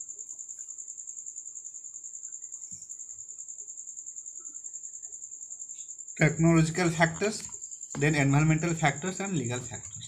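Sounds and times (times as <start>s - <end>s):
insect chirping trill: 0.0s - 10.0s.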